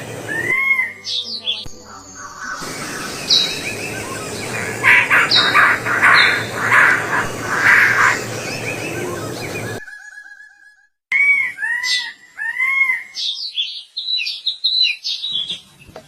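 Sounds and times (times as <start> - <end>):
outdoor background noise: 0.0 - 10.0, 11.1 - 16.0
birds whistling: 0.2 - 15.7
harsh bird calls: 1.9 - 15.7.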